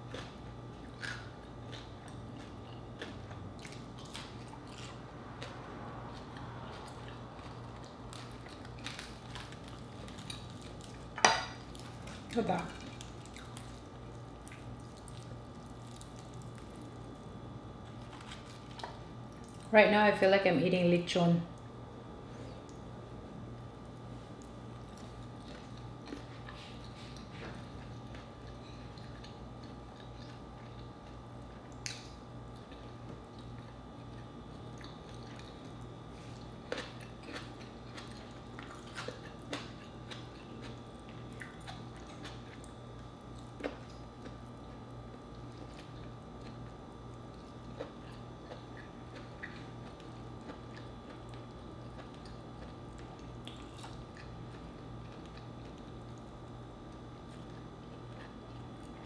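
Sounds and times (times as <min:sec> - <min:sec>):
chewing and crunching food: 0:00.0 - 0:19.8, 0:21.5 - 0:59.0.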